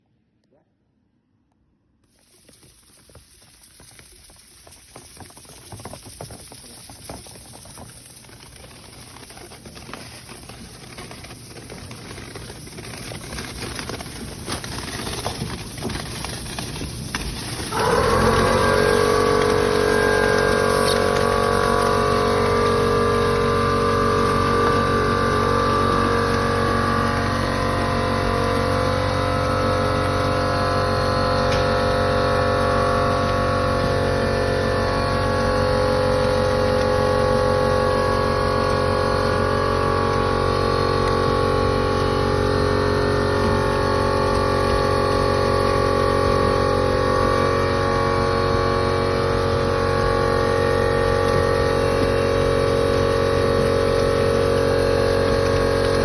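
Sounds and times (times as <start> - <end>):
machine humming: 7.7 - 56.0.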